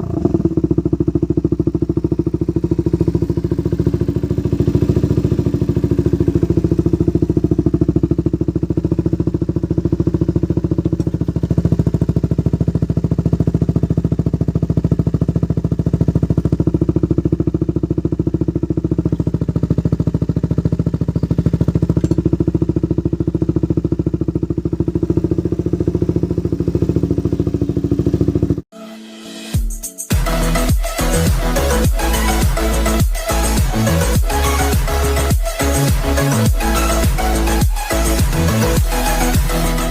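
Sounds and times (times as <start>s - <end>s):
motorcycle engine idling: 0.0s - 28.7s, 30.1s - 39.9s.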